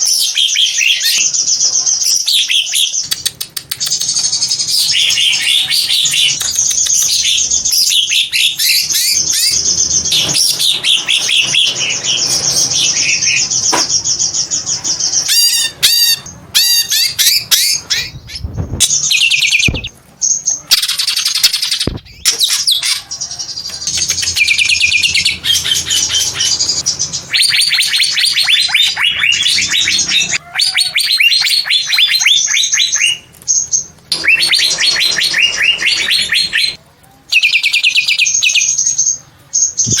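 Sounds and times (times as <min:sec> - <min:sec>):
bird singing high chirps and trills: 0:00.0 - 0:40.0.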